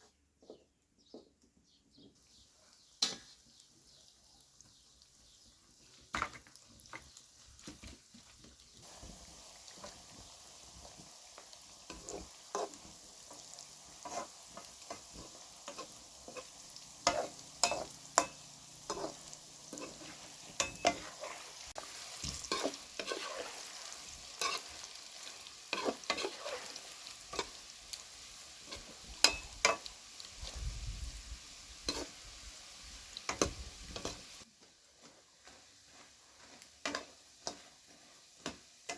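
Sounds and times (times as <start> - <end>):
food sizzling in hot oil: 2.3 - 38.9.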